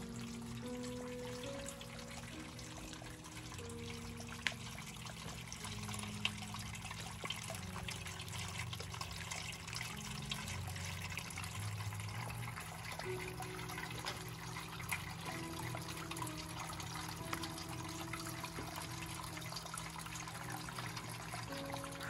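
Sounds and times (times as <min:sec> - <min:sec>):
low sustained notes: 0:00.0 - 0:22.0
water trickling and splashing: 0:00.0 - 0:22.0.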